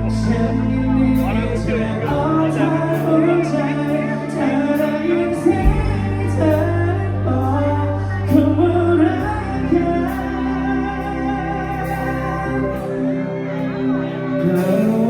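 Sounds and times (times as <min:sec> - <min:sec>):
held bass notes: 0:00.0 - 0:15.0
live band playing pop music: 0:00.0 - 0:15.0.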